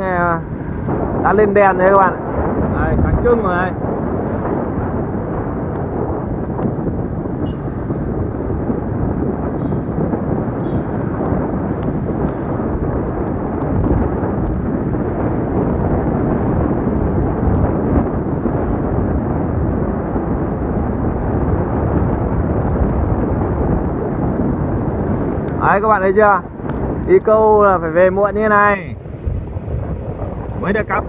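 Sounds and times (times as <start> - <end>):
road and traffic noise: 0.0 - 31.0
wind buffeting microphone: 0.0 - 31.0.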